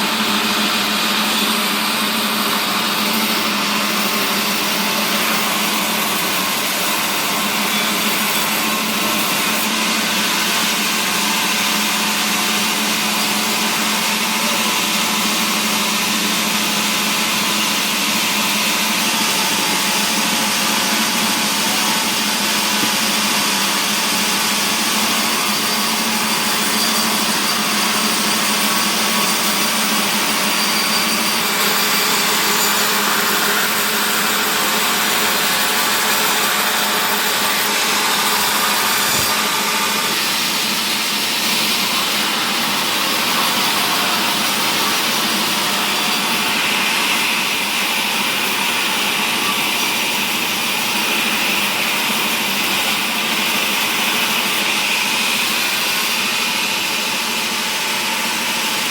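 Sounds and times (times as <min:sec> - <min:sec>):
woodworking machinery running: 0:00.0 - 0:58.9.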